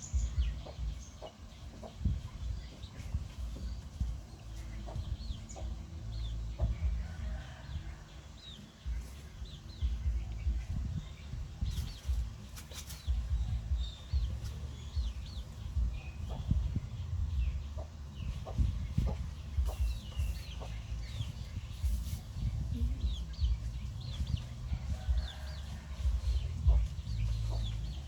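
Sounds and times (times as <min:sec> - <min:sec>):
low uneven rumble: 0:00.0 - 0:28.0.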